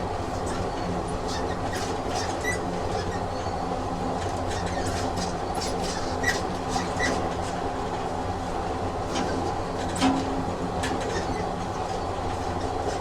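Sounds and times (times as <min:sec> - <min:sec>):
train rumbling along rails: 0:00.0 - 0:13.0.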